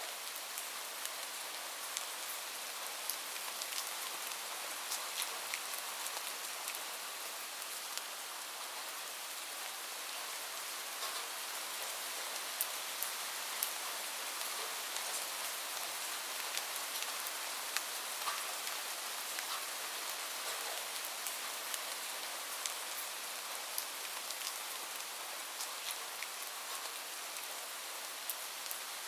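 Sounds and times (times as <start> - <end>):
light rain falling: 0.0 - 29.0.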